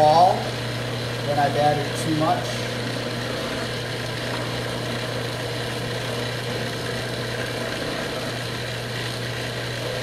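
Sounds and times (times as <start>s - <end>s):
food processor motor humming: 0.0s - 10.0s.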